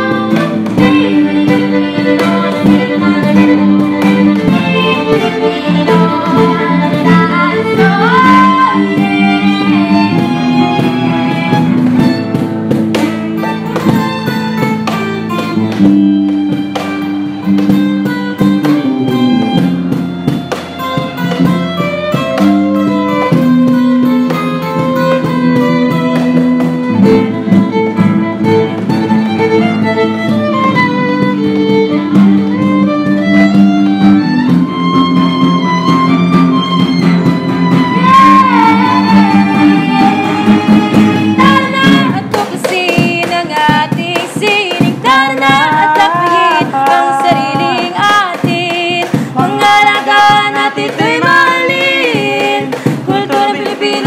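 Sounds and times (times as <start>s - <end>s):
cajon beat: 0.0s - 54.0s
guitar chords: 0.0s - 54.0s
violin melody: 0.0s - 54.0s.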